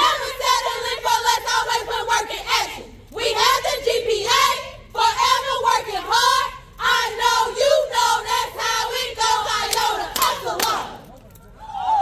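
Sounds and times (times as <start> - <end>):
women singing in unison: 0.0 - 10.9.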